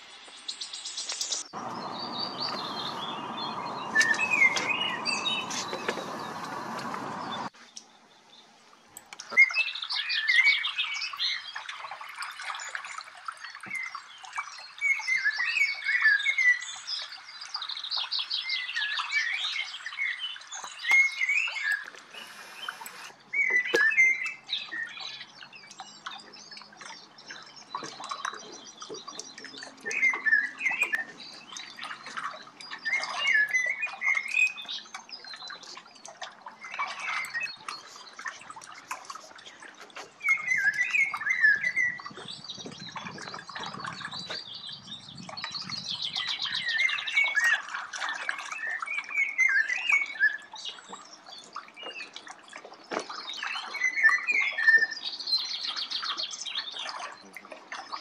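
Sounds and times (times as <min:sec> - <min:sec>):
small birds chirping: 0:00.2 - 0:58.0.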